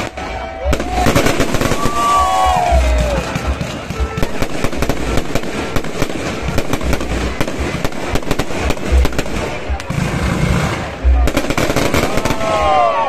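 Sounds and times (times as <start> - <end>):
deep fireworks booms: 0.0 - 13.0
fireworks crackling and popping: 0.0 - 13.0.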